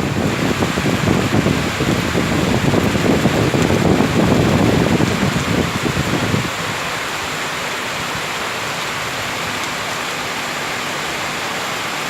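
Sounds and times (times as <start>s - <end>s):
heavy rain in forest: 0.0s - 12.0s.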